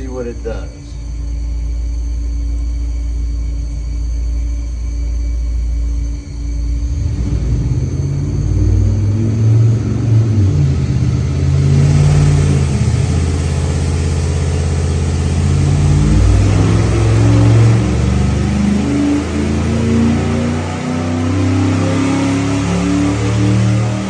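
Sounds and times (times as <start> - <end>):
engine revving under load: 0.0 - 1.7, 5.6 - 24.0.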